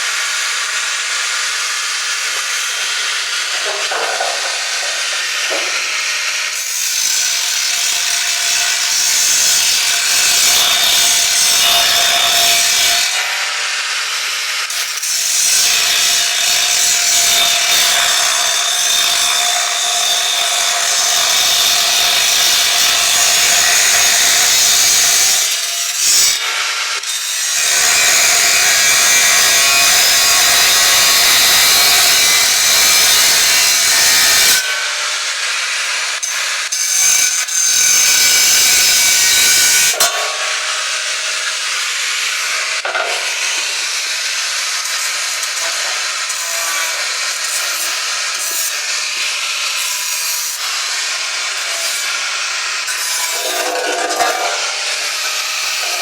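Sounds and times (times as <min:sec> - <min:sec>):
power tool hissing abrasively: 0:00.0 - 0:56.0.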